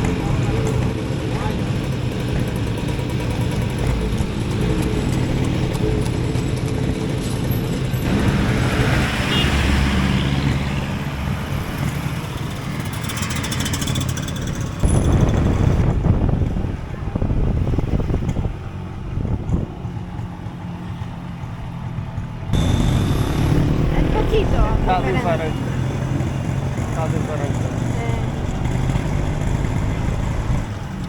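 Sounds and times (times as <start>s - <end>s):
motorcycle engine running: 0.0s - 9.4s, 11.6s - 31.0s.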